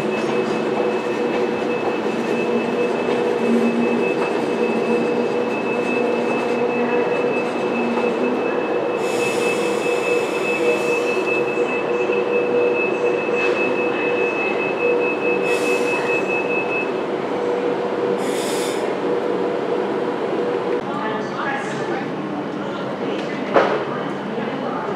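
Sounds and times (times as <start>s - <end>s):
electric train running noise: 0.0s - 20.8s.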